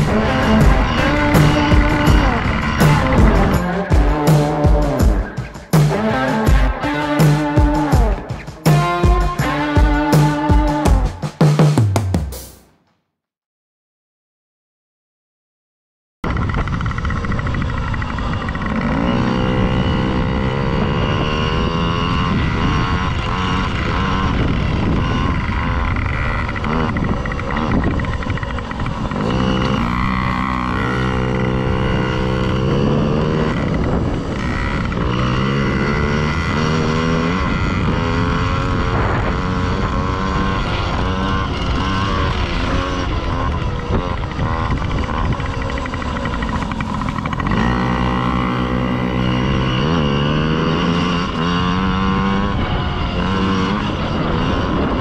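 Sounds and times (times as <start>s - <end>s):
two-stroke dirt bike engines revving: 0.0s - 11.7s, 16.3s - 55.0s.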